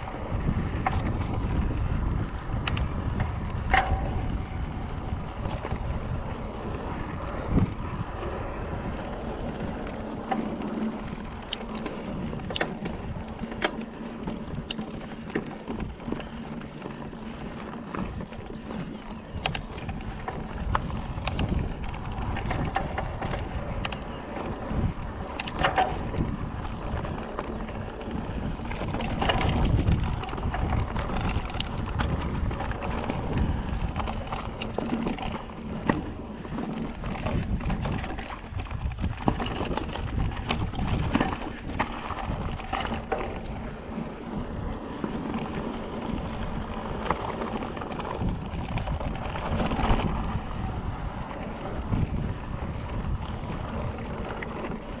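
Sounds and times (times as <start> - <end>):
bike clicks and rattles: 0.0 - 55.0
wind rumbling on microphone: 0.0 - 55.0.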